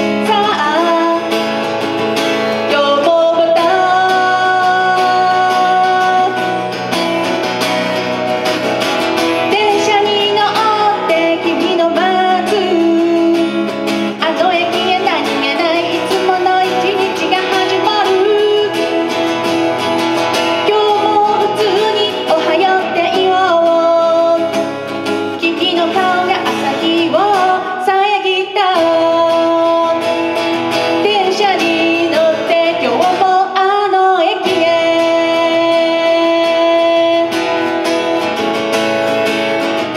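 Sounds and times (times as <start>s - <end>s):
woman singing: 0.0s - 38.2s
acoustic guitar chords: 0.0s - 39.9s.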